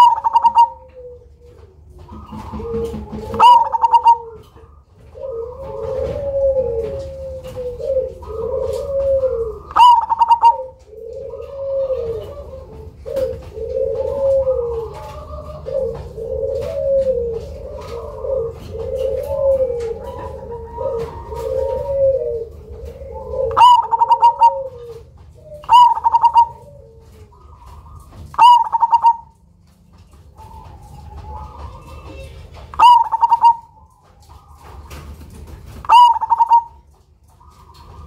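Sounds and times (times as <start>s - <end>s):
dove cooing: 0.0s - 38.0s.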